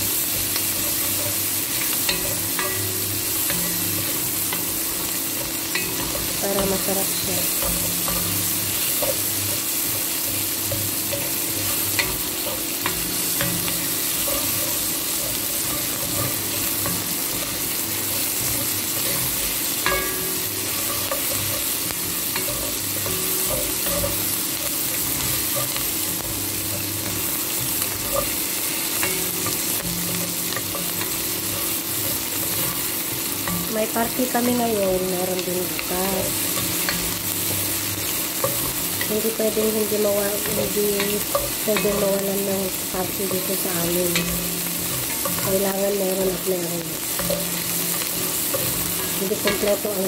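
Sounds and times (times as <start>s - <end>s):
onions sizzling in hot oil: 0.0s - 50.0s.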